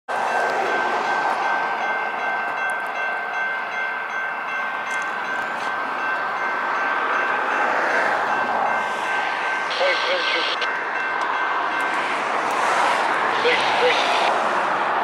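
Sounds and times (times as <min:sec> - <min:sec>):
crossing warning bell ringing: 0:00.1 - 0:15.0
freight train rumble: 0:00.1 - 0:15.0.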